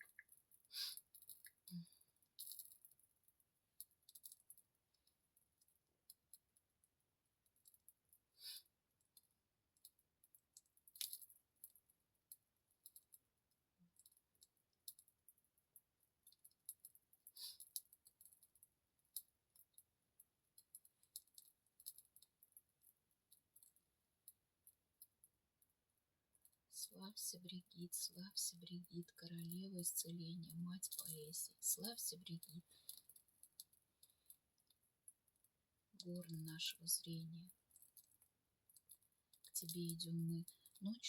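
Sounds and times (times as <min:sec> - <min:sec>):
small fire crackling and popping: 0:00.0 - 0:41.0.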